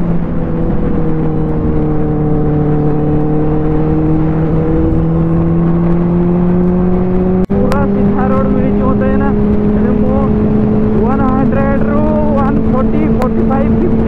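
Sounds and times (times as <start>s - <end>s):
motorcycle engine cruising: 0.0s - 14.0s
wind rushing over microphone: 0.0s - 14.0s.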